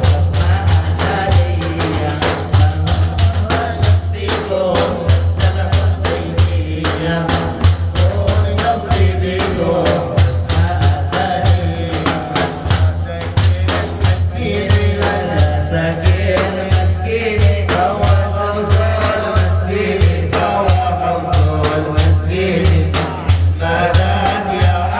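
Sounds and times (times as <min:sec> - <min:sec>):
frame drums and tambourine: 0:00.0 - 0:24.9
person singing praise song: 0:00.0 - 0:24.9.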